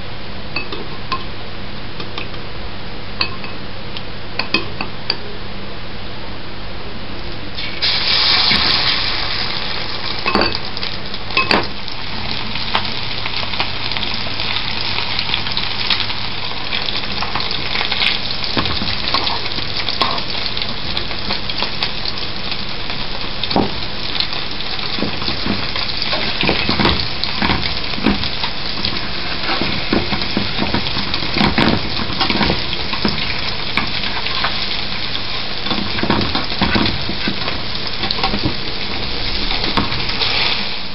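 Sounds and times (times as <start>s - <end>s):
food sizzling in a frying pan: 7.5s - 40.9s.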